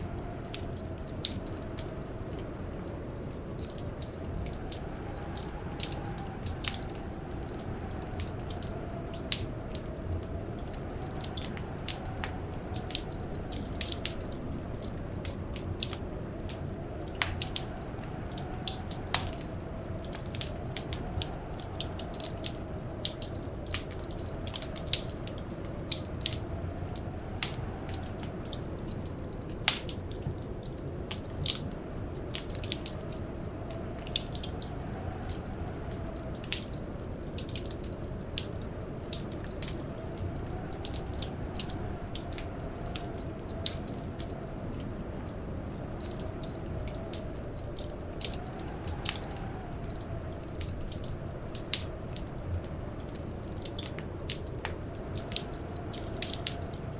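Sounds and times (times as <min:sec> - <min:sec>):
wind howling: 0:00.0 - 0:56.9
wood fire crackling and popping: 0:00.0 - 0:56.9.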